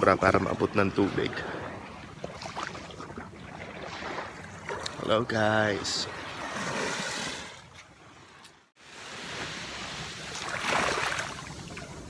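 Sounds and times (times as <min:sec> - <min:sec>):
sea waves washing on sand: 0:00.0 - 0:12.0.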